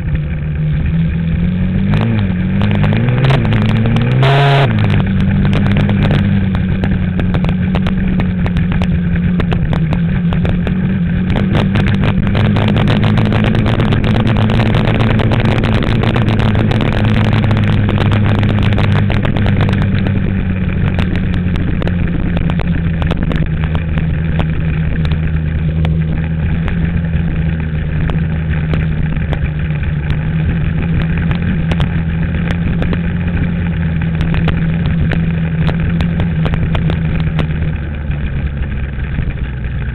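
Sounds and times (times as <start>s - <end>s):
dirt bike engine running: 0.0s - 39.9s
wind buffeting microphone: 1.9s - 39.9s.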